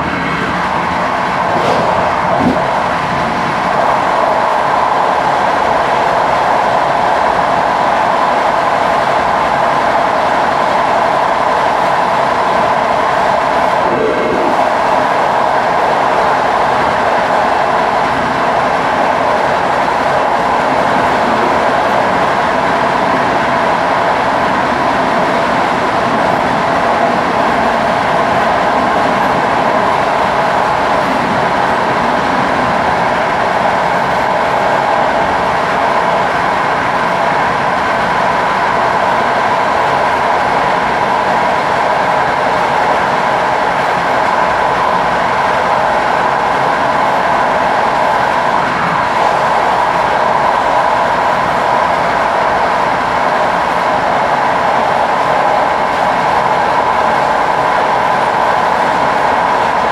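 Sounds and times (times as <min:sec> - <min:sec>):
train wheels running on track: 0:00.0 - 0:59.9.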